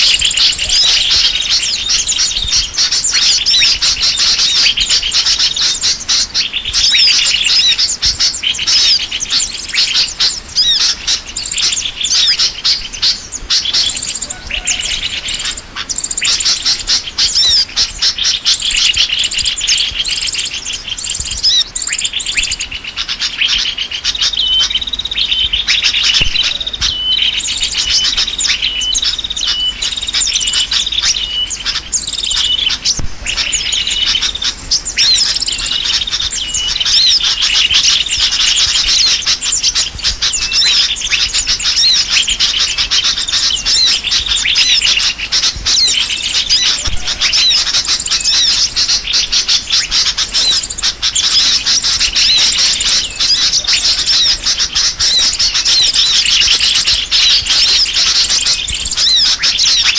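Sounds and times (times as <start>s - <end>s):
bulbul calls: 0.0s - 59.9s
songbirds chirping and twittering: 0.0s - 59.9s.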